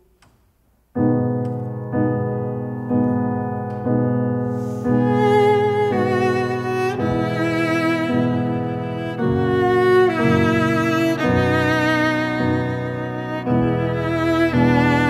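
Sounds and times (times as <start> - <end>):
piano chords ringing: 0.9 - 15.0.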